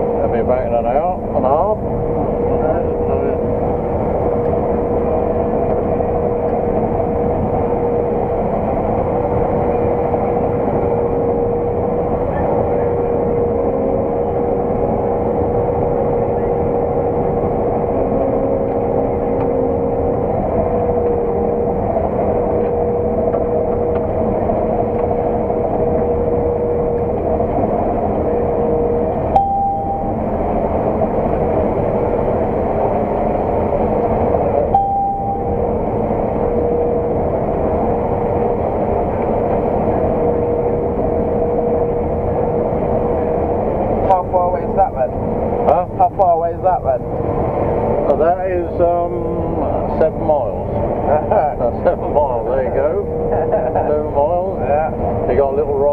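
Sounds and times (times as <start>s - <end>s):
farm machinery engine droning: 0.0s - 55.9s.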